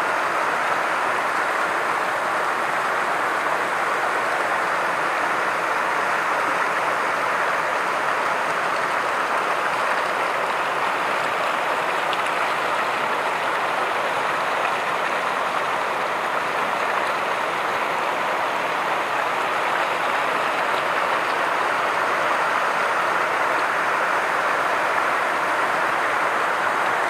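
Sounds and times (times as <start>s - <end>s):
waterfall rushing over rocks: 0.0s - 27.0s.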